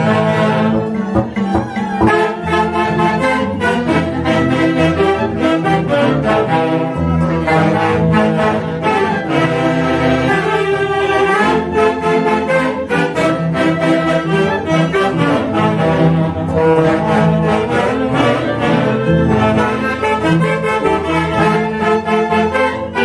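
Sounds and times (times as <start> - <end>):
saxophones and clarinets dance music: 0.0 - 23.0.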